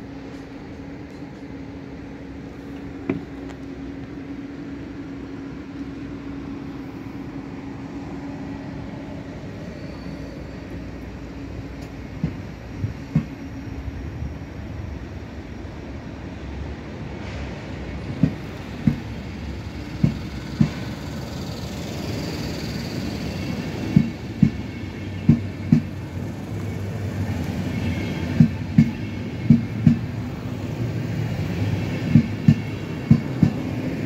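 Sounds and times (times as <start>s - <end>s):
train rolling past: 0.0s - 34.0s.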